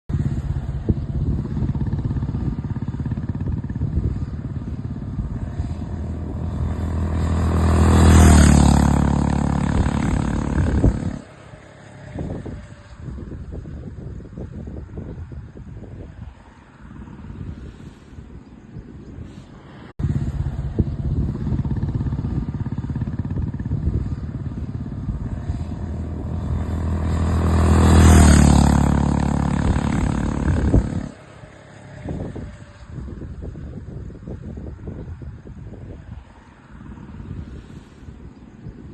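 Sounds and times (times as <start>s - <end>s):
rush of noise: 0.2s - 38.9s.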